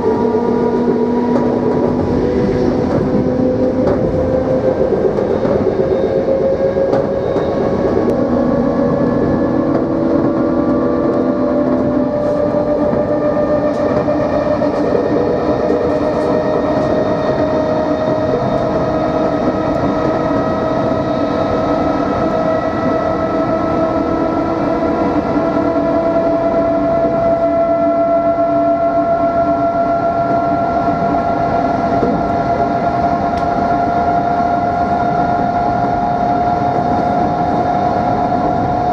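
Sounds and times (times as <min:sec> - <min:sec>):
electric train motors whining: 0:00.0 - 0:38.9
train running noise: 0:00.0 - 0:38.9.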